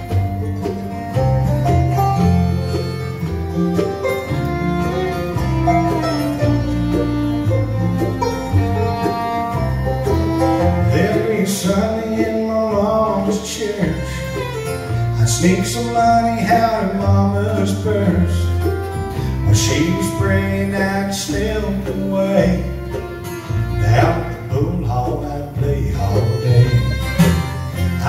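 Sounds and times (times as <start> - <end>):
acoustic guitar: 0.0 - 28.0
fiddle: 0.0 - 28.0
mandolin: 0.0 - 28.0
upright bass: 0.0 - 28.0.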